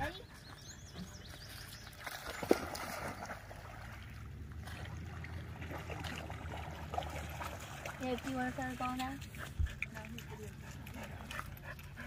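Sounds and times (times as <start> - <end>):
dog splashing through water: 1.2 - 11.9.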